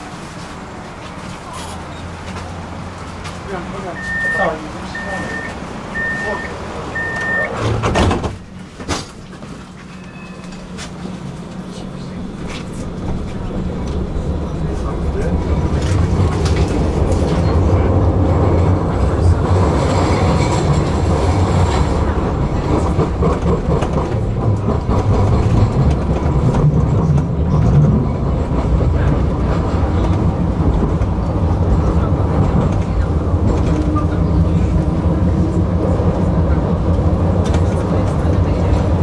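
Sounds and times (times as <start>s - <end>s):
tram wheels rumbling on rails: 0.0s - 39.0s.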